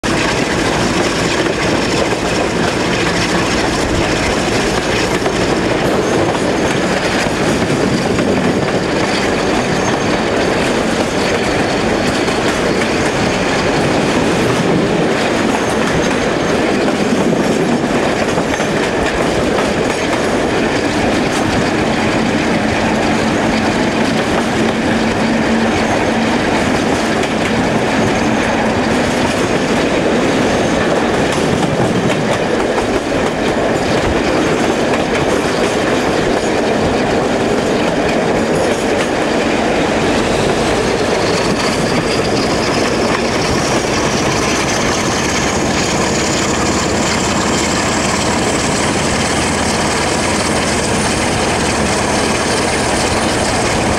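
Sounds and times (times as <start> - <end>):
diesel locomotive engine: 0.0 - 53.9.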